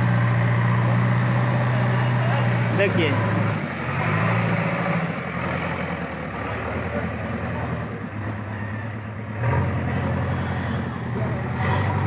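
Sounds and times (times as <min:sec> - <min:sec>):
diesel engine driving past: 0:00.0 - 0:12.0.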